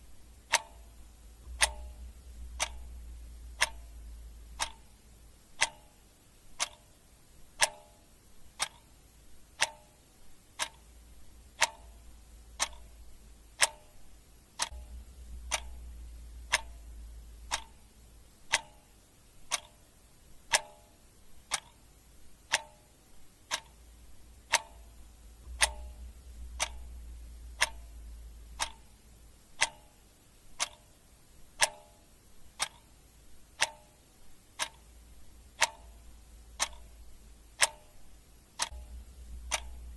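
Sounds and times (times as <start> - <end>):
clock ticking: 0.0 - 39.9
faint low rumble: 0.0 - 39.9.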